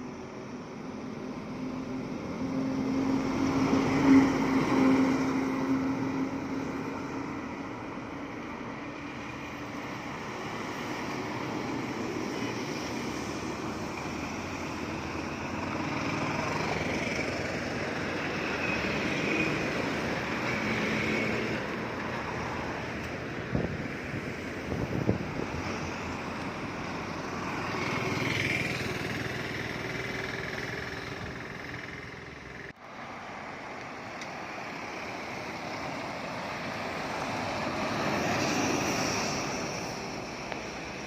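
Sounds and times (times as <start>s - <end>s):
heavy vehicles driving past: 0.0s - 41.0s
road noise: 0.0s - 41.0s.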